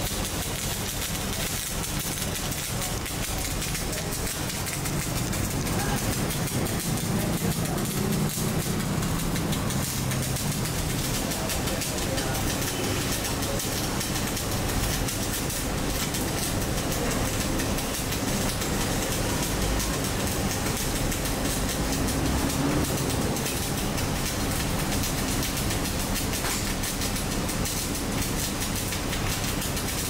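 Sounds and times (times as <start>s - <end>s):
welding arc crackling: 0.0s - 30.0s.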